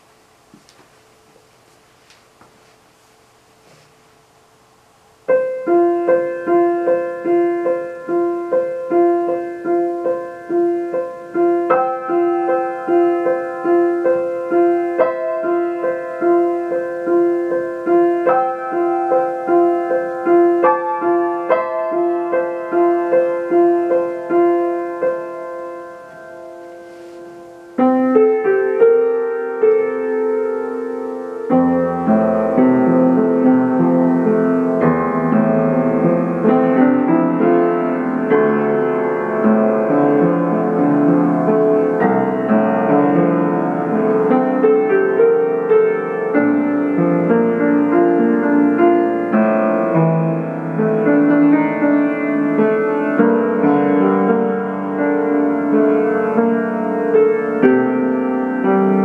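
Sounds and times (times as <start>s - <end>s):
solo piano: 0.0s - 59.0s.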